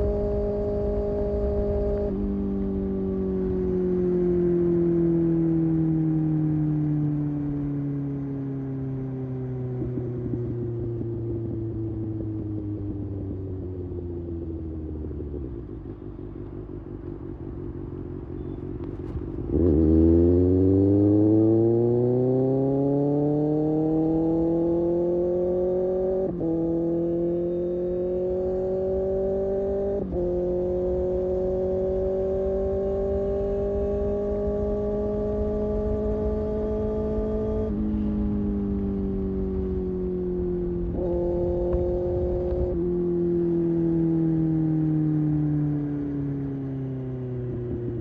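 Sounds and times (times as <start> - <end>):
motorcycle engine revving: 0.0 - 7.9, 9.2 - 48.0.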